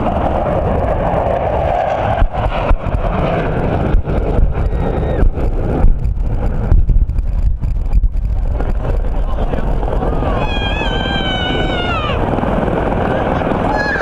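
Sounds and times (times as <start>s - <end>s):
helicopter engines and rotor: 0.0s - 14.0s.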